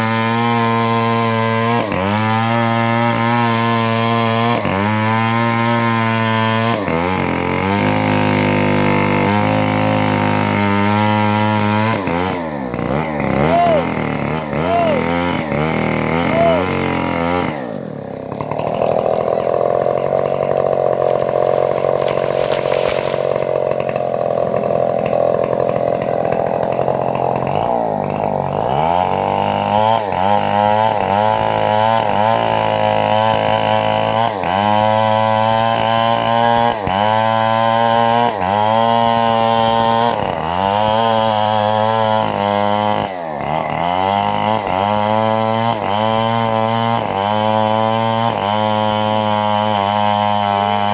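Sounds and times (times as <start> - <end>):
bandsaw mill engine sawing wood: 0.0 - 50.9.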